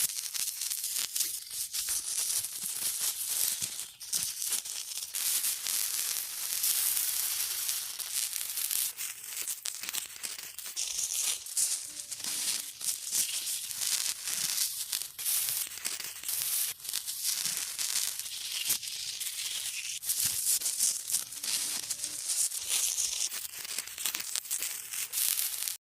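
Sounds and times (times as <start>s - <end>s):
acid fizzing and sizzling: 0.0s - 25.8s.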